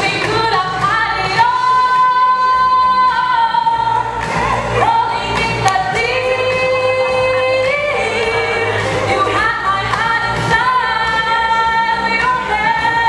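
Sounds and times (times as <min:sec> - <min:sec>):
woman singing a ballad: 0:00.0 - 0:13.0.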